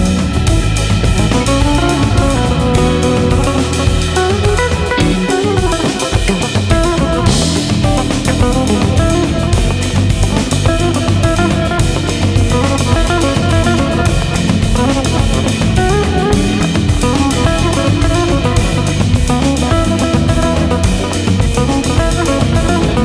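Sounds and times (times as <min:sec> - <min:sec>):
drum beat and guitar music: 0:00.0 - 0:23.0.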